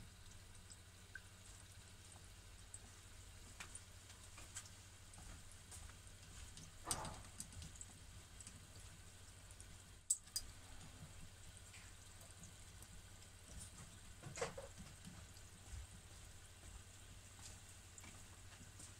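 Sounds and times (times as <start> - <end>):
deep-frying sizzle and pops: 0.0 - 16.6.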